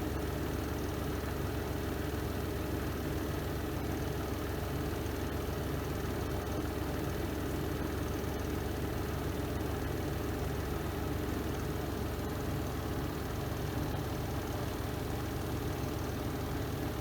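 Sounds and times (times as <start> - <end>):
washing machine spin cycle hum: 0.0 - 17.0.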